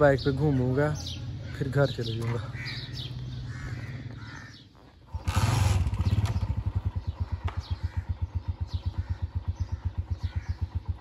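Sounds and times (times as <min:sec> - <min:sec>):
motorcycle engine starting and running: 0:00.0 - 0:11.0.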